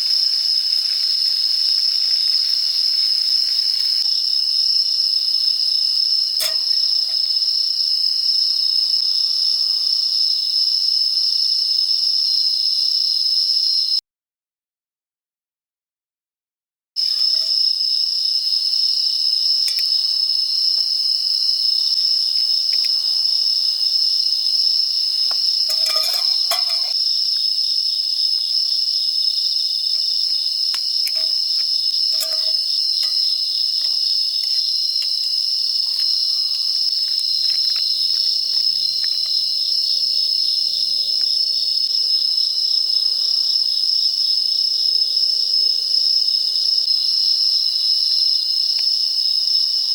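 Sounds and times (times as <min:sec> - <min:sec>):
insects trilling: 0:00.0 - 0:14.0, 0:17.0 - 0:49.9.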